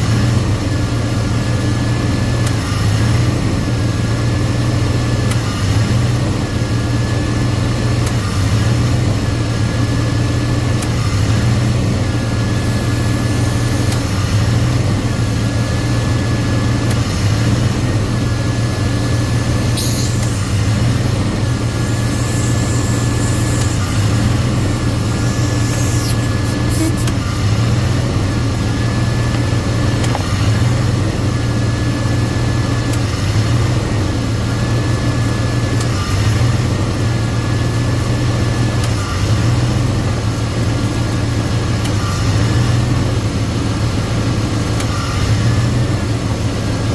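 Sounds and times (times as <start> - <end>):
ac compressor clutch whine: 0.0 - 46.9
car engine idling: 0.0 - 46.9.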